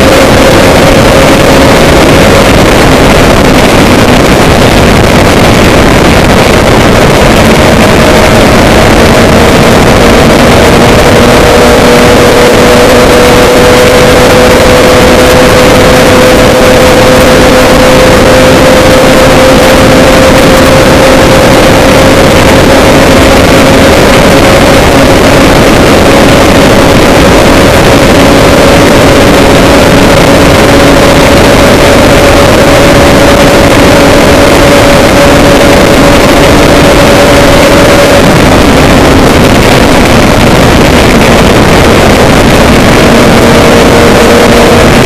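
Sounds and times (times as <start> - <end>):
higher hum: 0.0 - 45.0
low hum: 0.0 - 45.0
moving vehicle running noise: 0.0 - 45.0.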